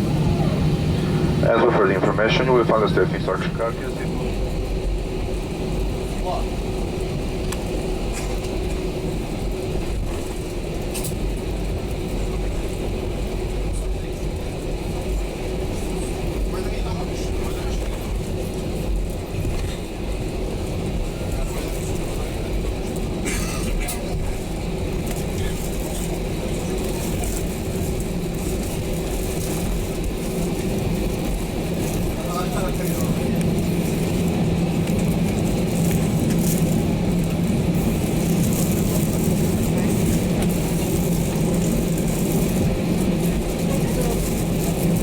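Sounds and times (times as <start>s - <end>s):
airplane cabin rumble: 0.0s - 45.0s.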